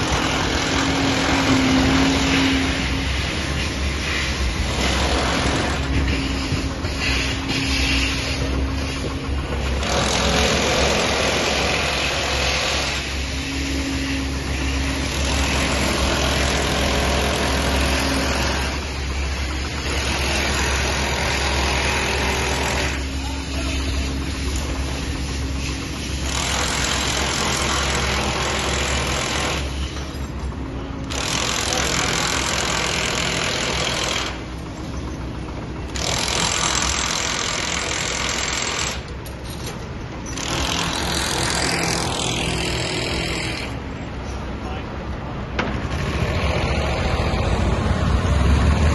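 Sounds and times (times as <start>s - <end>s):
excavator diesel engine rumbling: 0.0s - 48.9s
site and street noise: 0.0s - 48.9s.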